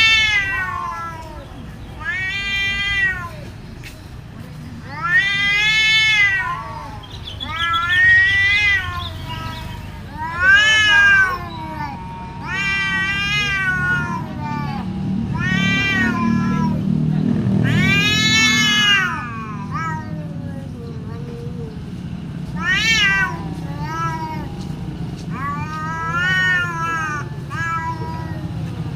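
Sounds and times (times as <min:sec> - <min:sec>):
cats yowling: 0:00.0 - 0:03.6, 0:04.8 - 0:21.8, 0:22.5 - 0:28.9.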